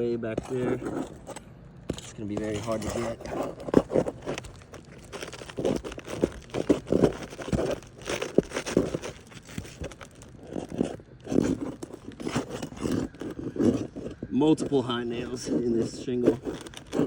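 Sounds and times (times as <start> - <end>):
shingles scraping and crackling: 0.2 - 17.0.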